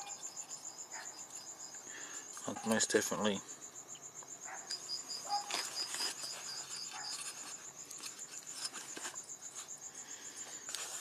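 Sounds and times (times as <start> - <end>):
crickets chirping: 0.0 - 11.0
lower-pitched cricket trilling: 0.0 - 11.0.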